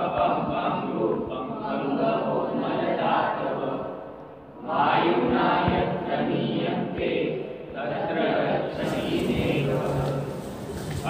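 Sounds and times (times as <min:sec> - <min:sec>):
background music with choir: 0:00.0 - 0:11.0.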